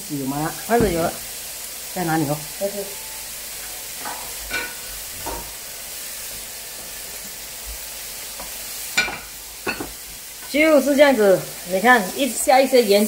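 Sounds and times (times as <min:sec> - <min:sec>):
bean sprouts sizzling in a pan: 0:00.0 - 0:13.0.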